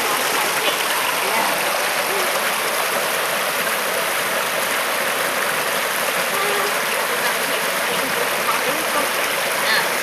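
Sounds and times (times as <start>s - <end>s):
creek water rippling over rocks: 0.0s - 10.0s.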